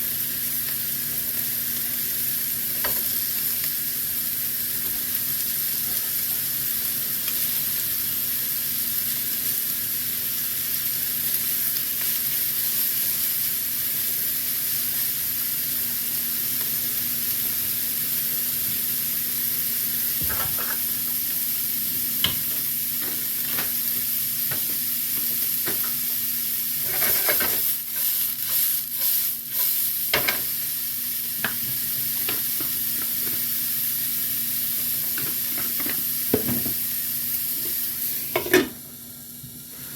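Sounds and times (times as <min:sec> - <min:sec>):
meat sizzling in a frying pan: 0:00.0 - 0:39.9.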